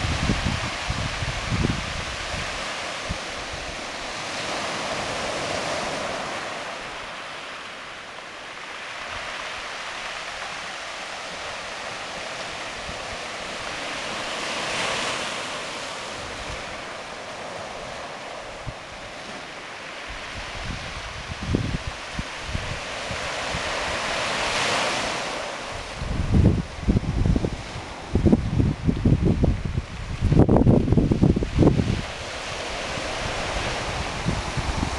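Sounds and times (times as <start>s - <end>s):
surf washing over pebbles: 0.0s - 34.9s.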